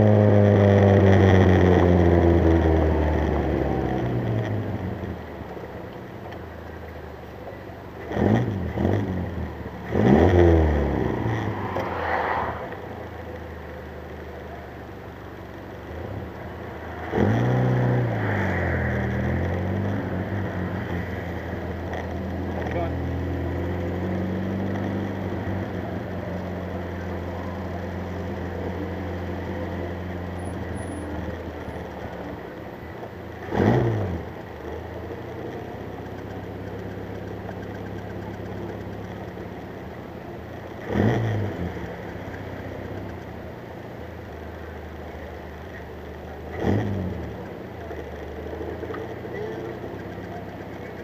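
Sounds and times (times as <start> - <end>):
car engine revving: 0.0 - 5.8, 7.9 - 14.9, 15.6 - 39.6, 40.4 - 43.2, 44.5 - 51.0.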